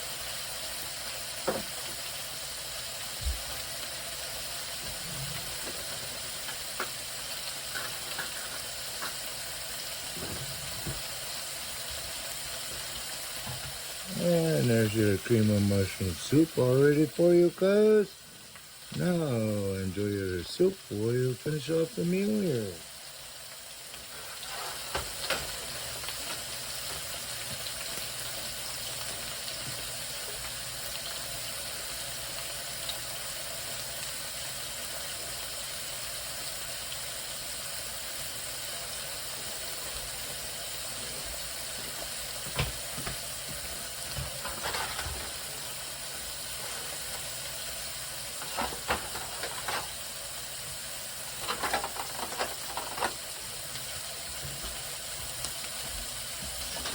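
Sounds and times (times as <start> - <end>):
food sizzling in a pan: 0.0 - 56.9.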